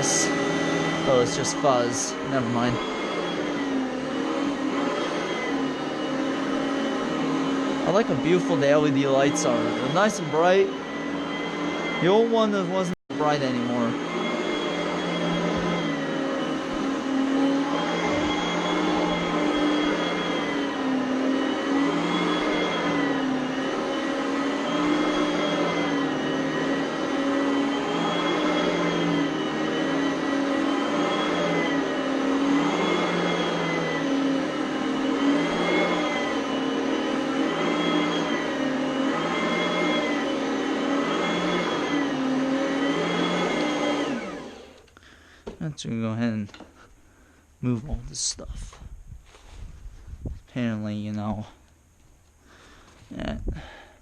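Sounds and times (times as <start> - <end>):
vacuum cleaner motor whine: 0.0 - 45.6.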